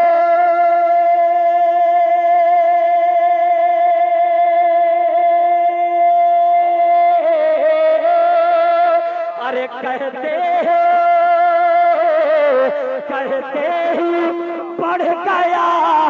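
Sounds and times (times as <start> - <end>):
man singing long note: 0.0 - 16.0.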